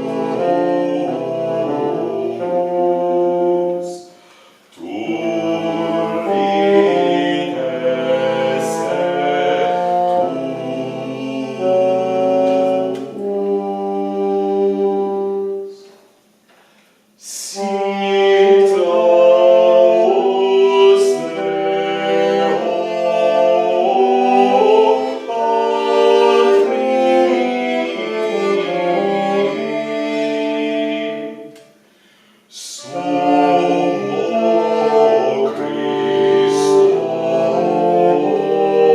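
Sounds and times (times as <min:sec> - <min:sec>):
early music ensemble playing: 0:00.0 - 0:38.9.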